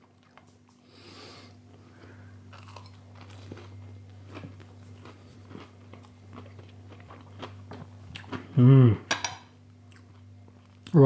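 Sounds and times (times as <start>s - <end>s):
chewing with soft crunches: 0.0s - 8.6s, 9.7s - 11.0s
steady low hum: 0.0s - 11.0s.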